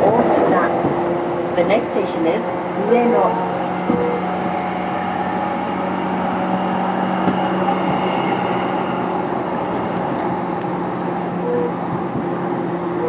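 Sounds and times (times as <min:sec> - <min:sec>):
electric train equipment humming: 0:00.0 - 0:13.0.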